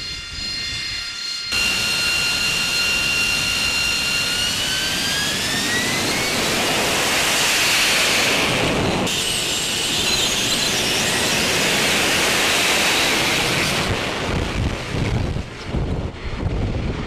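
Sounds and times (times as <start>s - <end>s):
high wavering jet whine: 0.0s - 17.0s
jet engine roar: 0.0s - 17.0s.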